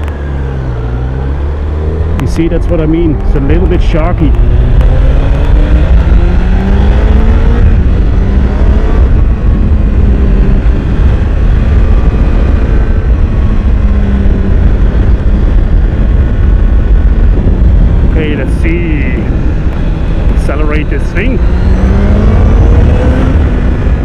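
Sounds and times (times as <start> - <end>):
motorcycle engine revving: 0.0 - 24.0
wind rush: 0.0 - 24.0.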